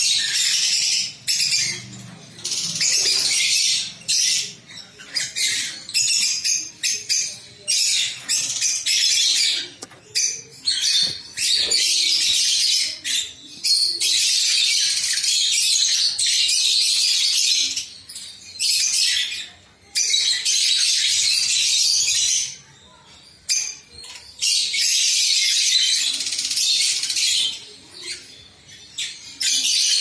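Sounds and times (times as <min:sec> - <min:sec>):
lovebirds shrill chatter: 0:00.0 - 0:30.0.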